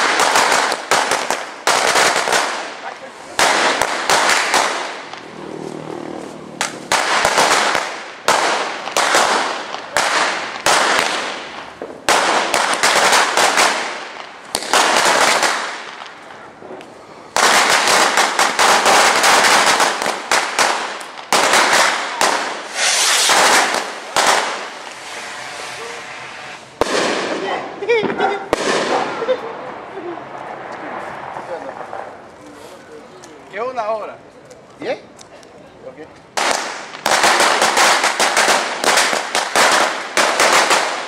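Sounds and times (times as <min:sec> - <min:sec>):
firecrackers rapid bangs: 0:00.0 - 0:05.4, 0:06.6 - 0:32.3, 0:36.3 - 0:41.0
fireworks bangs echoing: 0:00.0 - 0:05.4, 0:06.6 - 0:32.2, 0:36.4 - 0:41.0.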